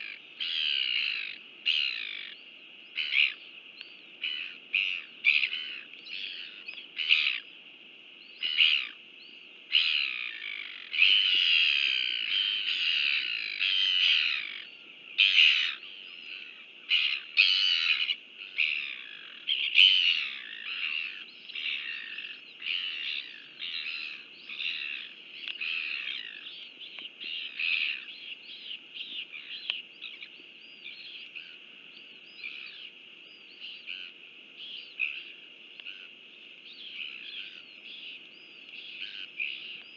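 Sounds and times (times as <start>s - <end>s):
small birds chirping: 0.0s - 7.6s, 8.2s - 39.9s.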